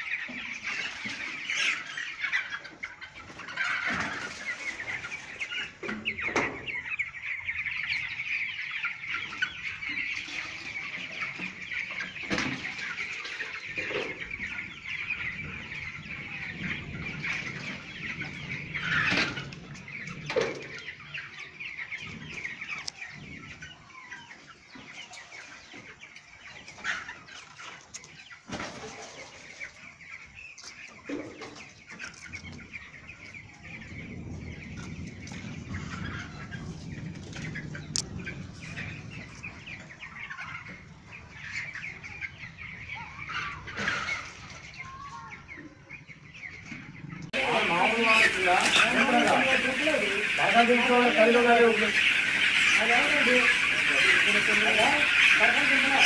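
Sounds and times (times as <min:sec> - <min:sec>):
flock of chicks calling: 0:00.0 - 0:56.0.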